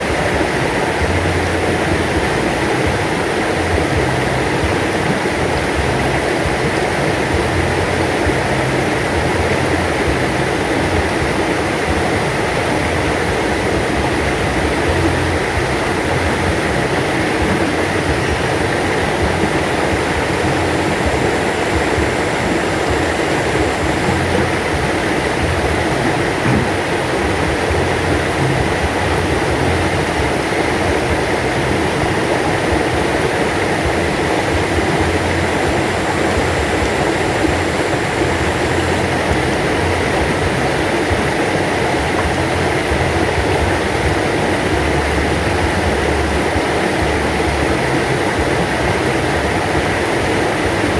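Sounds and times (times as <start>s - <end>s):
river stream flowing: 0.0s - 50.9s.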